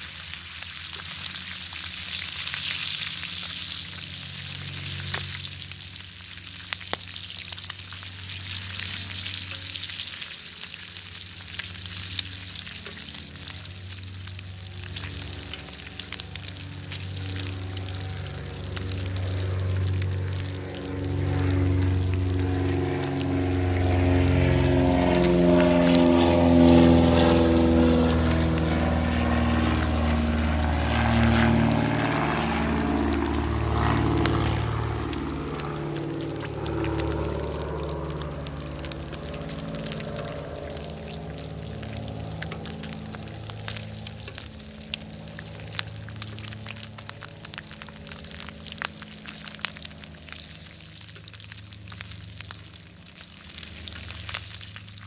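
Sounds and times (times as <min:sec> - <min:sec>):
bacon sizzling in a pan: 0:00.0 - 0:25.7, 0:26.8 - 0:30.0, 0:31.6 - 0:55.0
fire crackling: 0:00.0 - 0:55.0
low steady hum: 0:01.2 - 0:55.0.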